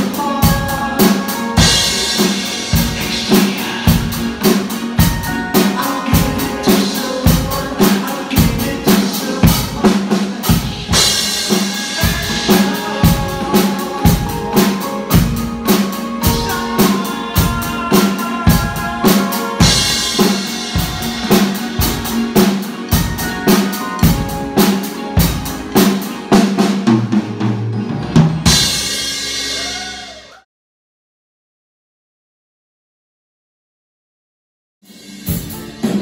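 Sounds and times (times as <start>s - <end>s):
drum kit beat: 0.0s - 30.3s, 34.9s - 36.0s.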